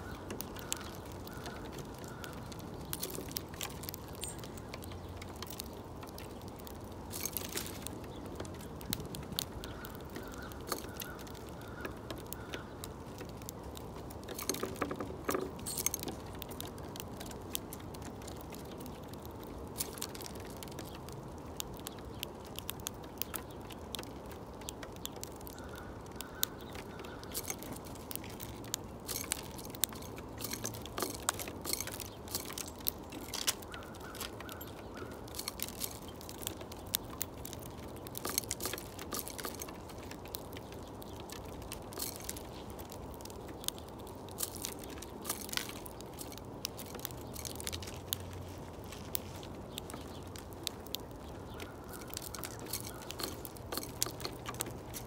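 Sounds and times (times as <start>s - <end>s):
birds pecking clicks: 0.0s - 55.0s
low background noise: 0.0s - 55.0s.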